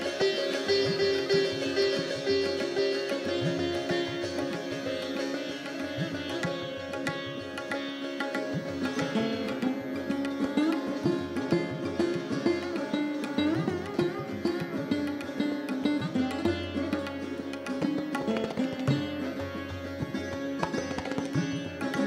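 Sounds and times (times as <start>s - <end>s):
sitar and sarod plucked melody: 0.0s - 22.0s
tabla drum strokes: 0.0s - 22.0s.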